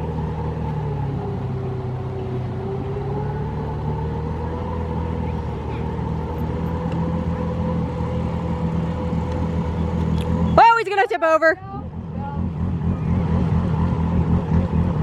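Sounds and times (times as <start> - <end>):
pickup truck engine hum: 0.0 - 15.0.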